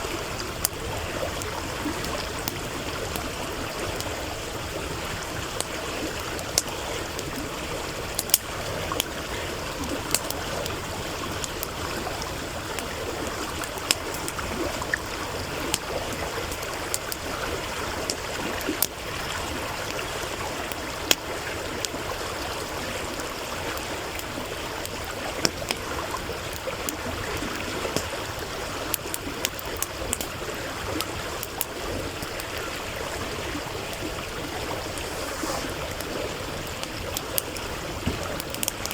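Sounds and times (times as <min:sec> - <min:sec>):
campfire crackling and popping: 0:00.0 - 0:38.9
stream over stones: 0:00.0 - 0:38.9.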